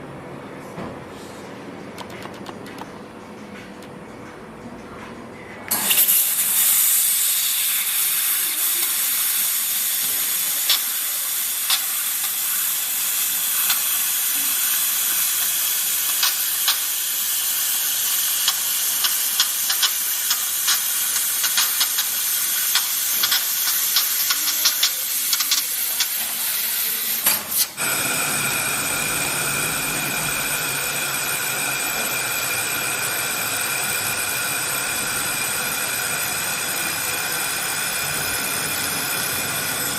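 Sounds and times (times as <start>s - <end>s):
laser machine hissing and crackling: 5.7s - 39.9s.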